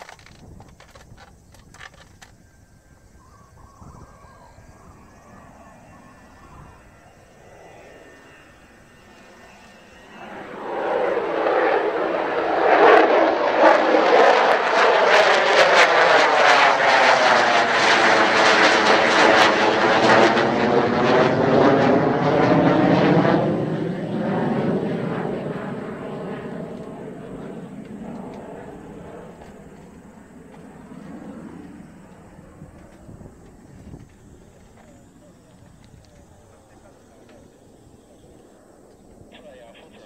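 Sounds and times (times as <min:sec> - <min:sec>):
jet engine passing low: 0:00.0 - 0:40.0.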